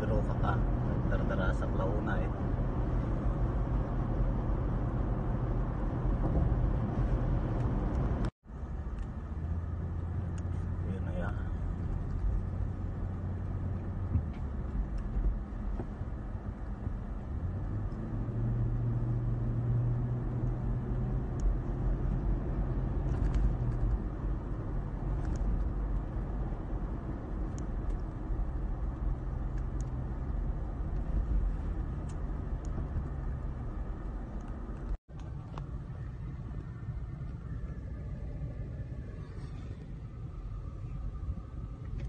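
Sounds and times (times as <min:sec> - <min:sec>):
car engine rumble in cabin: 0:00.0 - 0:42.0.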